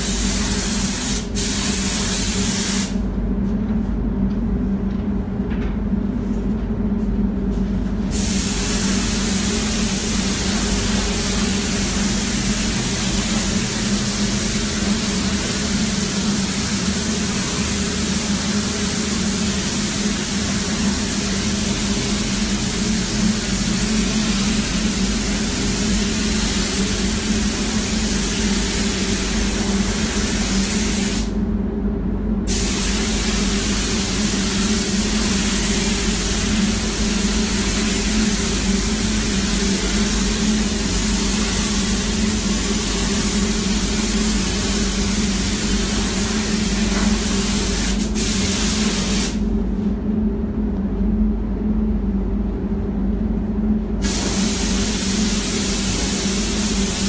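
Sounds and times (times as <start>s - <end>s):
paint spray gun hissing: 0.0s - 3.0s, 8.1s - 31.4s, 32.5s - 49.4s, 54.0s - 57.0s
steady low hum: 0.0s - 57.0s.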